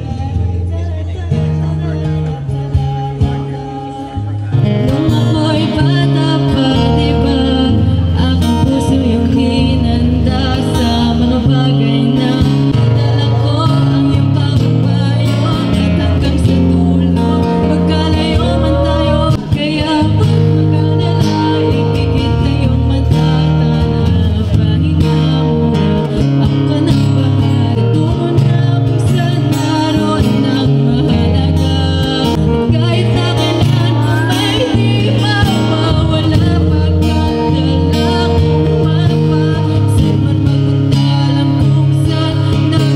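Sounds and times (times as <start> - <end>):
acoustic guitar: 0.0 - 42.9
person singing: 0.0 - 42.9.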